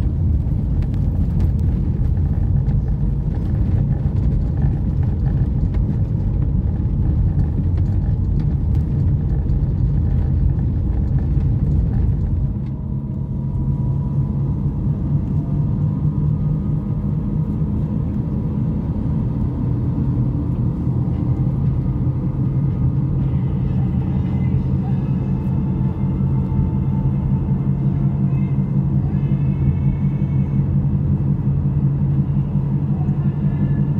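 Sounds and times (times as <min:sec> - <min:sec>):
engine and tyre hum: 0:00.0 - 0:33.9.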